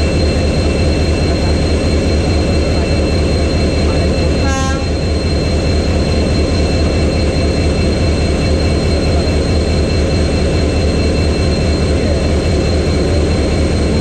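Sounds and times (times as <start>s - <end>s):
locomotive diesel engine idling: 0.0s - 14.0s
thin steady whines: 0.0s - 14.0s.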